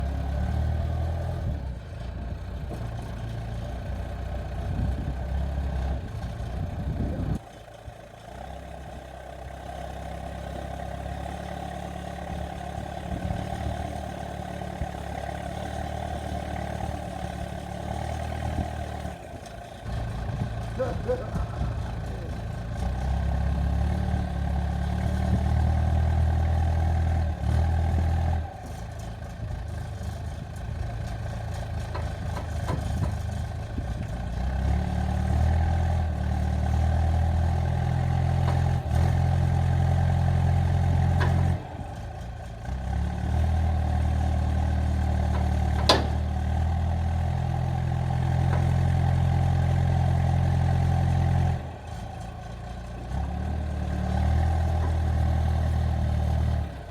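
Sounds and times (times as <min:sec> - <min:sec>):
skid steer engine under load: 0:00.0 - 0:56.9.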